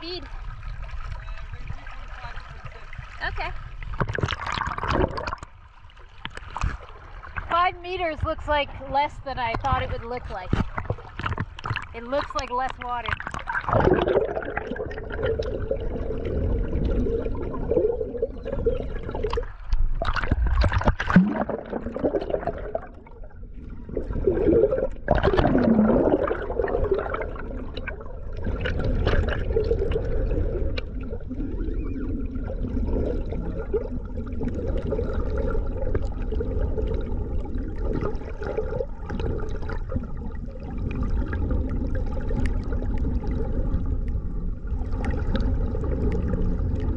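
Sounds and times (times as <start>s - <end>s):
muffled underwater rushing: 0.0s - 46.9s
water splashes: 0.0s - 46.9s.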